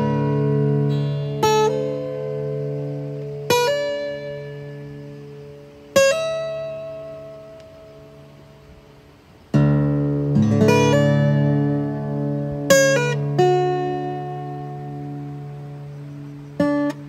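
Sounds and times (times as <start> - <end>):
slow acoustic guitar piece: 0.0 - 17.0.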